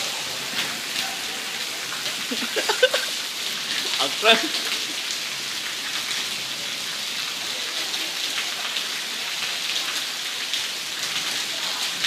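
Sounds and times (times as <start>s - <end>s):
rain on brick paving: 0.0s - 12.0s.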